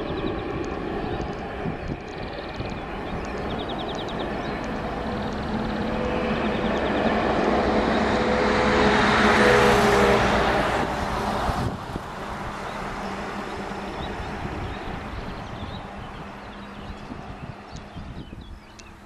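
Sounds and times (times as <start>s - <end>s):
jet engines on takeoff run: 0.0s - 19.0s.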